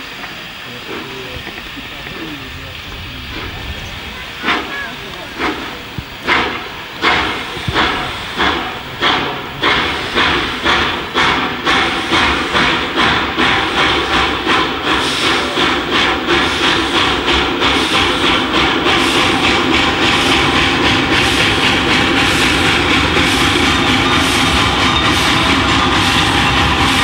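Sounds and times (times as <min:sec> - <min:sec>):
steam hiss: 0:00.0 - 0:27.0
steam locomotive chuffing: 0:00.0 - 0:27.0.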